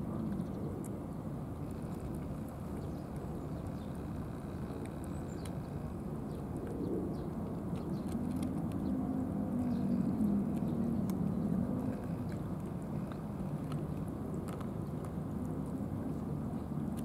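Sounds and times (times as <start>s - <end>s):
cats chewing wet food: 0.3s - 17.0s.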